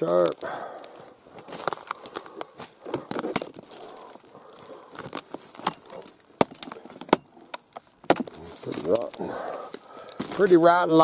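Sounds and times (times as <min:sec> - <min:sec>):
dry twigs crunching and snapping: 0:00.0 - 0:11.0.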